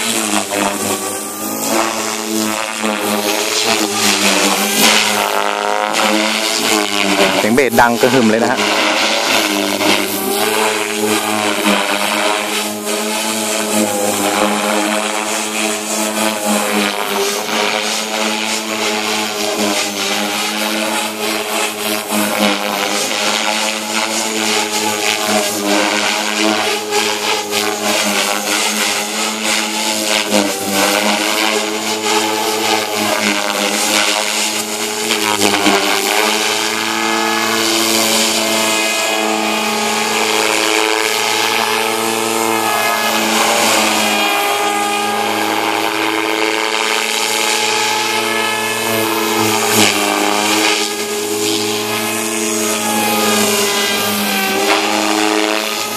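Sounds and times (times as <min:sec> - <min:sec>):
model helicopter motor whine: 0:00.0 - 0:55.9.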